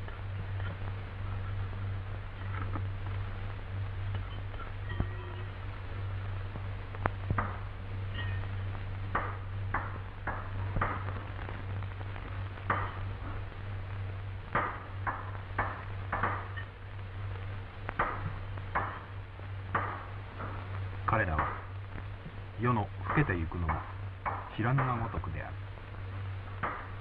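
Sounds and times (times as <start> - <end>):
low film soundtrack hum: 0.0 - 27.0.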